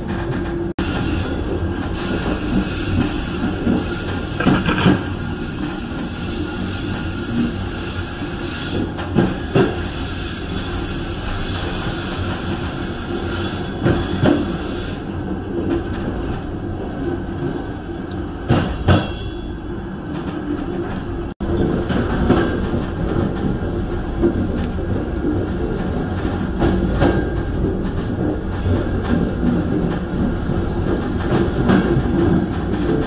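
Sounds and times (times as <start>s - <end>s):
train rumbling on rails: 0.0s - 33.0s.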